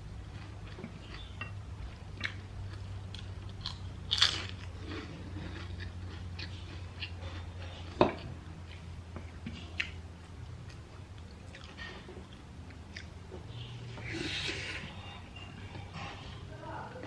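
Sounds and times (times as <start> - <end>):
wet chewing mouth sounds: 0.2 - 15.0.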